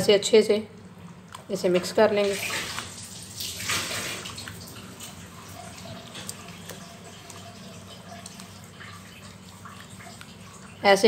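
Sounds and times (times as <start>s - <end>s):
wet squelching of chicken in marinade: 1.0s - 11.0s.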